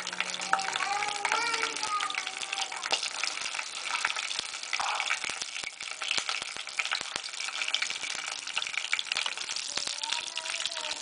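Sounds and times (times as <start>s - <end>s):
seeds crackling and popping: 0.0s - 11.0s
spices sizzling in hot oil: 0.0s - 11.0s.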